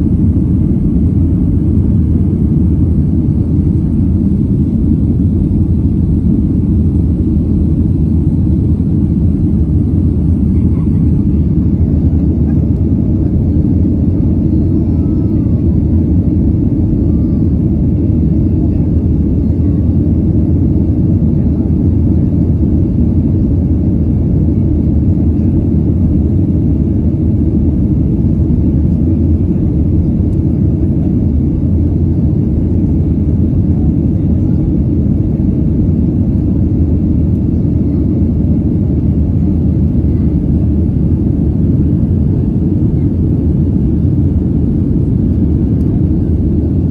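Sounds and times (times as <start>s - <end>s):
jet engines at climb power: 0.0s - 46.9s.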